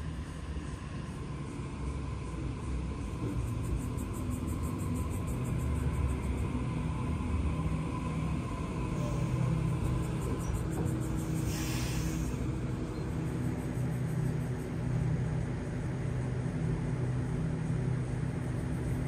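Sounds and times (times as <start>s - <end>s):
electric train rumble and whine: 0.0s - 19.0s.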